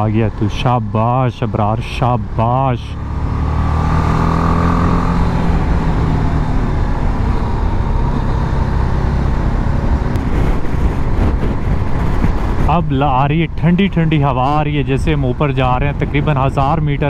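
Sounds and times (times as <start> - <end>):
motorcycle engine pulling uphill: 0.0 - 17.0
wind and road rush: 0.0 - 17.0.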